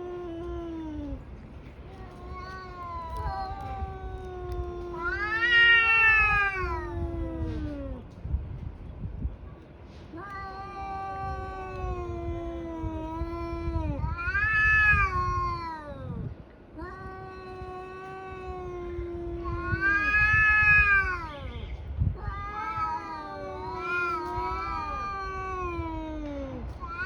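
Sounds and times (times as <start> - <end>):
cats yowling: 0.0 - 1.3, 1.9 - 8.0, 10.1 - 16.2, 16.8 - 21.6, 22.2 - 27.0.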